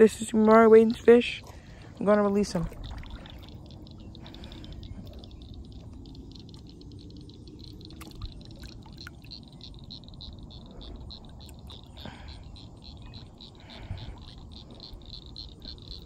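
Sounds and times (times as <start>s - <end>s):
steady low rumble: 0.0s - 16.0s
light water splashing: 0.9s - 16.0s.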